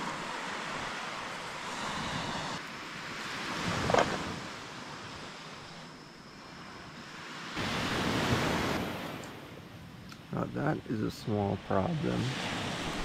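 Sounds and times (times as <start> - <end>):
sea waves washing onto beach: 0.0 - 5.7, 7.0 - 9.6, 10.2 - 13.0.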